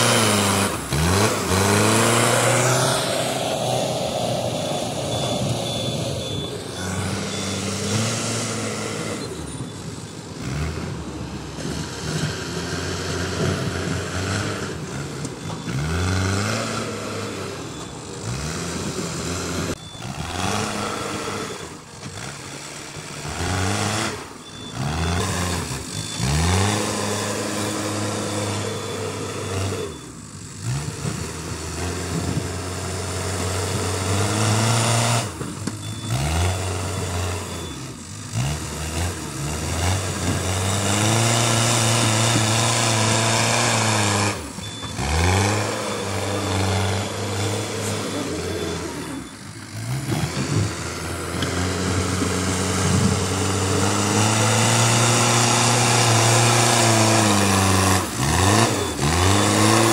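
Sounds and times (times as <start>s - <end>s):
backhoe diesel engine revving: 0.0s - 59.9s.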